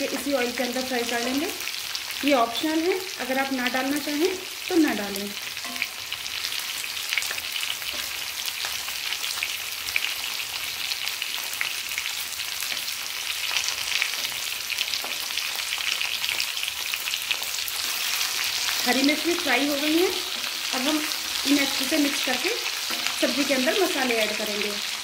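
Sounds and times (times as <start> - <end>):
chillies sizzling in hot oil: 0.0 - 25.0.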